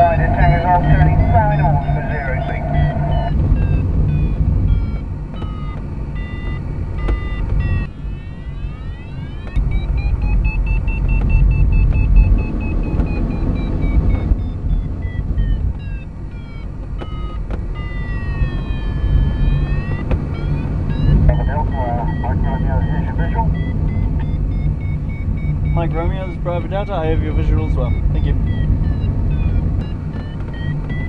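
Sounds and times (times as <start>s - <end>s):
variometer beeping: 0.0s - 31.0s.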